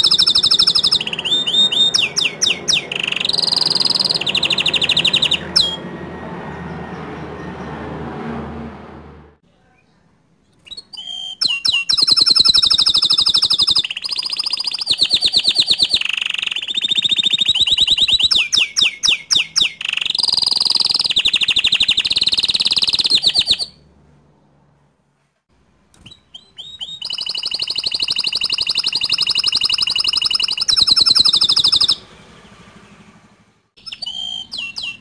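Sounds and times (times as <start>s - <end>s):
canary singing rapid trills: 0.0s - 7.8s, 10.6s - 23.9s, 26.0s - 33.1s, 33.8s - 35.0s.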